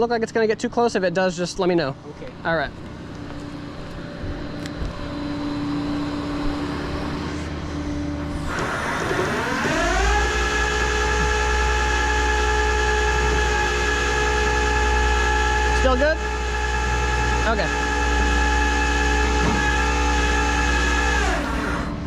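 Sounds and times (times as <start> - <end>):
tow truck engine and hydraulics: 1.4 - 22.0.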